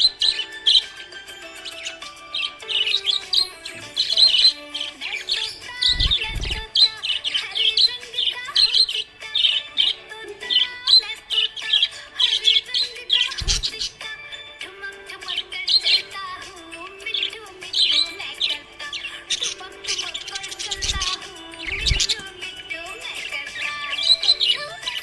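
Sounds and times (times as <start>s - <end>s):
background music: 0.0s - 25.0s
budgerigars chirping and warbling: 0.0s - 25.0s.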